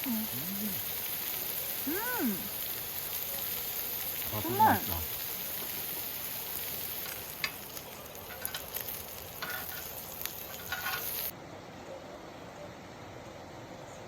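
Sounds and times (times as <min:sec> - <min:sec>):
food sizzling in a pan: 0:00.0 - 0:11.4.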